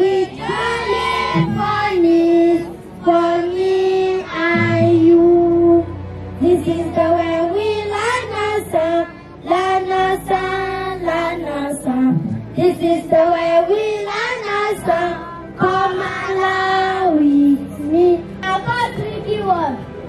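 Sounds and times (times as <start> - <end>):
girl singing into a microphone: 0.0 - 19.8.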